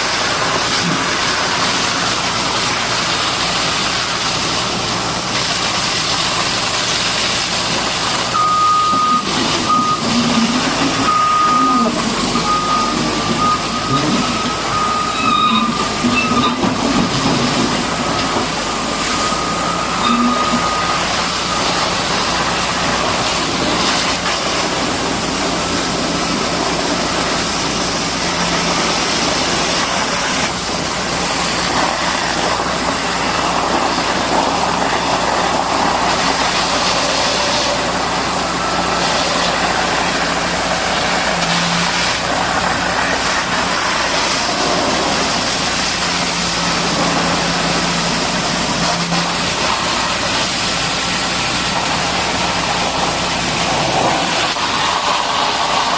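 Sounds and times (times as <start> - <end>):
continuous hiss: 0.0 - 55.9
machine engine running: 0.0 - 55.9.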